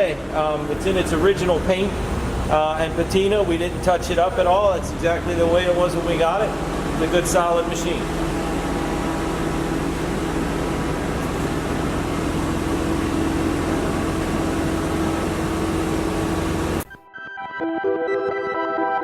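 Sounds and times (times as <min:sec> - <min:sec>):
shop machinery humming: 0:00.0 - 0:17.0.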